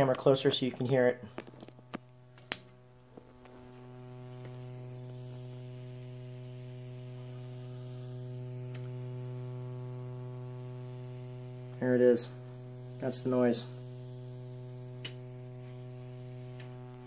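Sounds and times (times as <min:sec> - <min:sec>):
electrical buzz through speaker: 0:00.0 - 0:17.0.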